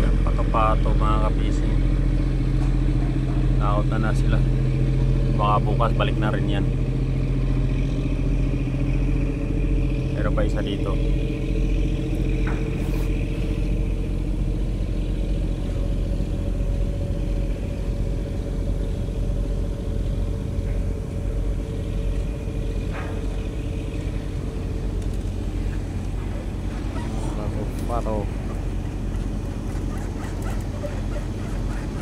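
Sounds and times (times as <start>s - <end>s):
boat engine droning: 0.0s - 32.0s
steady hum: 0.0s - 32.0s.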